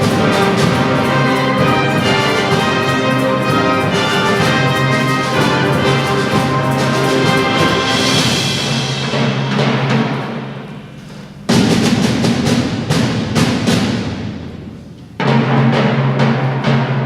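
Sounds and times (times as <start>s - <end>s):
wind band playing chords: 0.0s - 15.0s
timpani and percussion strokes: 0.0s - 17.0s.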